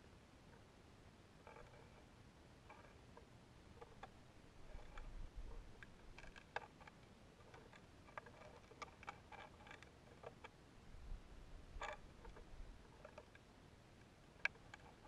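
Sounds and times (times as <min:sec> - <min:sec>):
faint irregular ticks and clicks: 0:00.0 - 0:15.0
faint low rumble: 0:00.0 - 0:15.0.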